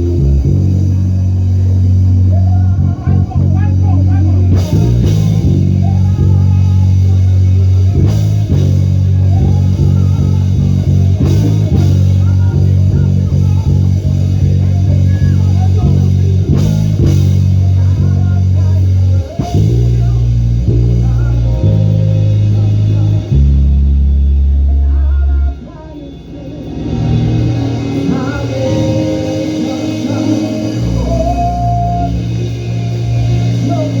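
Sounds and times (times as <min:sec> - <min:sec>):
church band music: 0:00.0 - 0:34.0
electric bass guitar low notes: 0:00.0 - 0:34.0.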